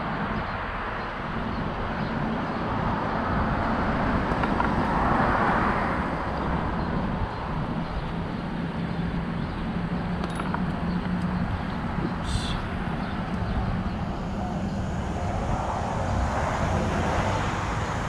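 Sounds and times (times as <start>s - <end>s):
road traffic rush: 0.0s - 18.0s
vehicle passing: 1.3s - 18.0s.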